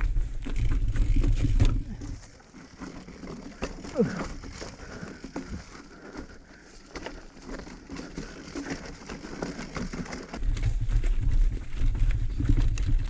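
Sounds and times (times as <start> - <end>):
bike rattling over rocks: 0.0 - 13.0.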